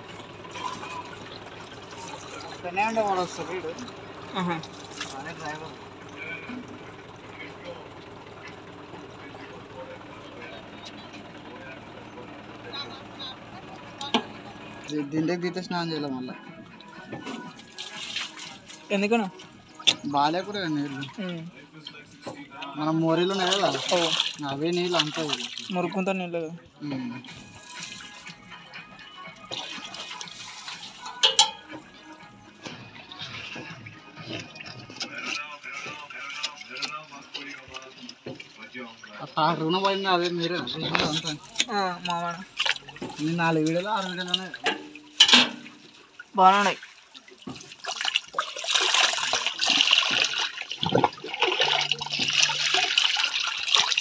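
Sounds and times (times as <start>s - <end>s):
water splashing and trickling: 0.0s - 11.8s, 12.6s - 21.7s, 22.3s - 54.0s.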